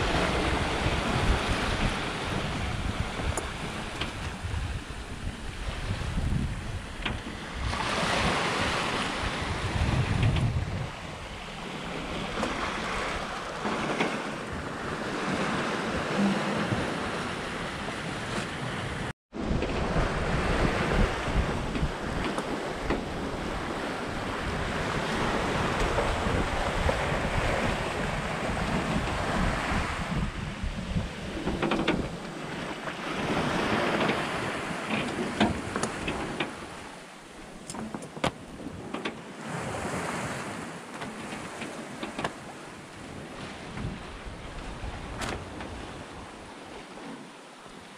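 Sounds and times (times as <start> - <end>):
wind buffeting microphone: 0.0 - 47.0
sea rushing along hull: 0.0 - 47.9.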